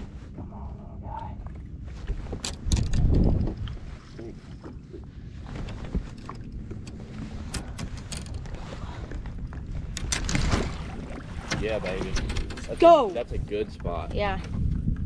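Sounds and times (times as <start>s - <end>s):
water lapping at boat hull: 0.0s - 15.0s
wind rumbling on microphone: 0.0s - 15.0s
splashing and rattling: 2.2s - 14.5s.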